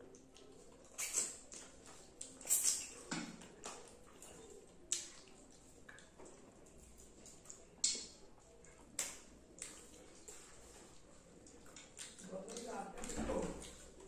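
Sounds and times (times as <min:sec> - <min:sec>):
wet chewing and lip smacks: 0:00.0 - 0:14.0.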